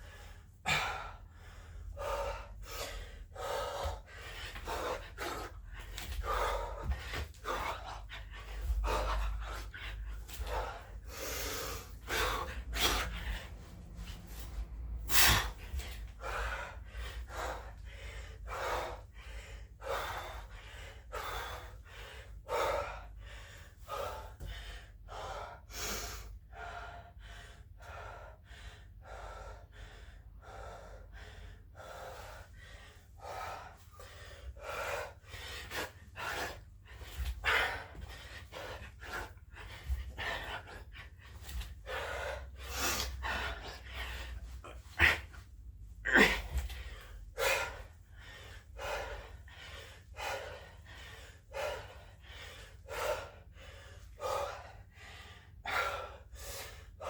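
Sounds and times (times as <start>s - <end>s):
man breathing hard: 0.0s - 57.0s.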